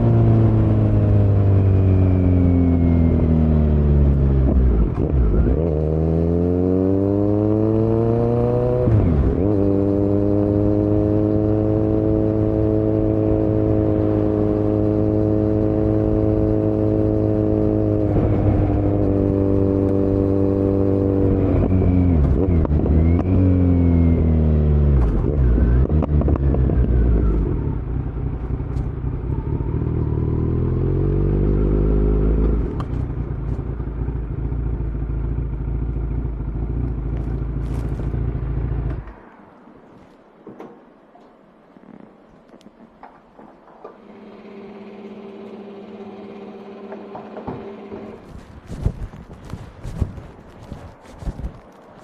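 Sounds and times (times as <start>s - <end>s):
motorcycle engine running: 0.0s - 39.1s, 44.0s - 52.0s.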